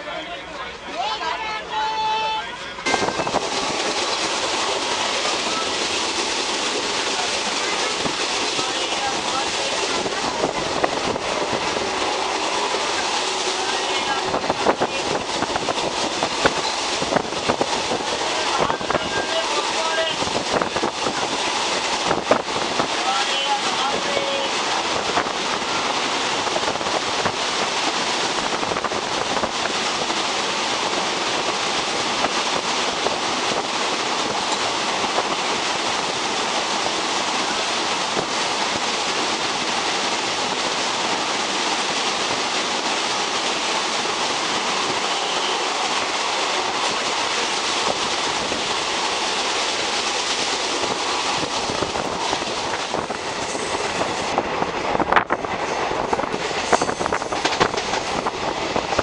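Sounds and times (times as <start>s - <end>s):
train wheel and wind rush: 0.0s - 59.0s.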